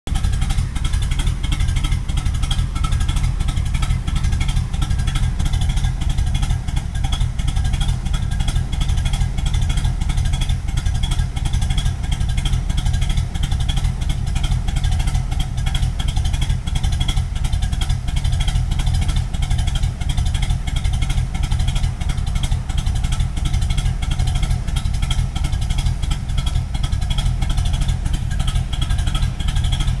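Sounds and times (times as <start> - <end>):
car engine idling roughly: 0.1 - 30.0.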